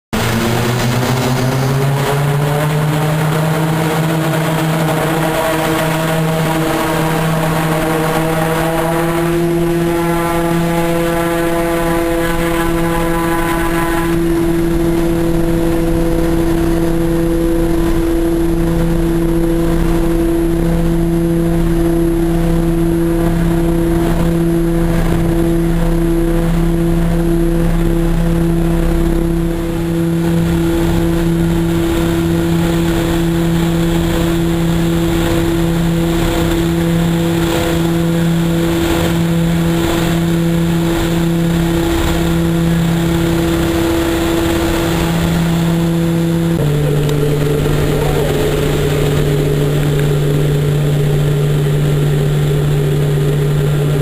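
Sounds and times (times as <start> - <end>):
turboprop engines droning: 0.1 - 54.0.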